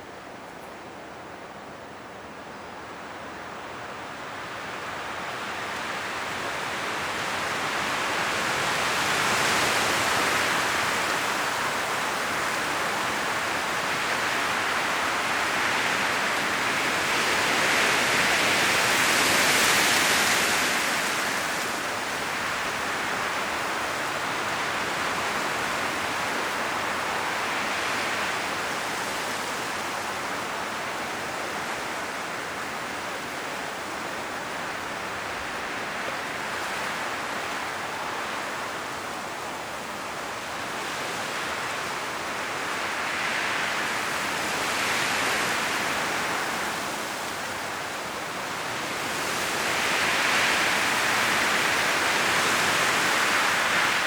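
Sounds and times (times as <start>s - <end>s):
wind rustling tree leaves: 0.0s - 54.0s.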